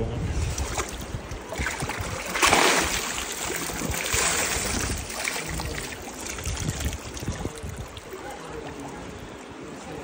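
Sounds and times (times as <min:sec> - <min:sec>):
river running over stones: 0:00.3 - 0:10.0
water pouring from a boot: 0:00.5 - 0:08.8.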